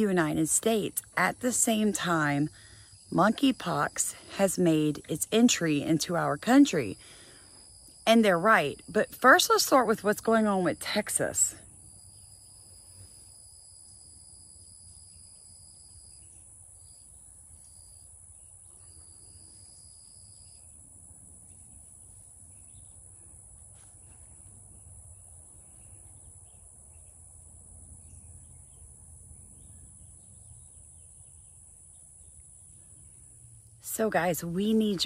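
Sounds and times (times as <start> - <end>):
insects droning high-pitched: 0.0 - 35.0
lower insect trill: 0.0 - 35.0.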